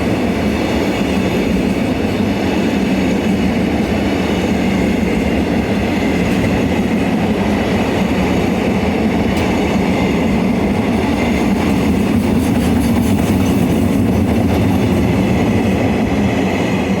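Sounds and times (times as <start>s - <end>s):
steel wheels rumbling on rail: 0.0s - 17.0s.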